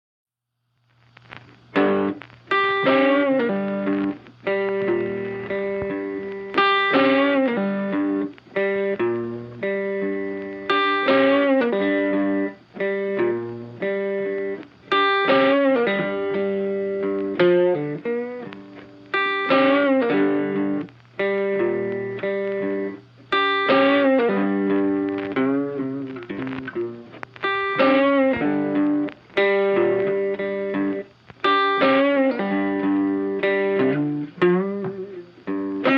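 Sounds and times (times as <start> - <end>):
plucked guitar phrases: 1.3 - 35.9.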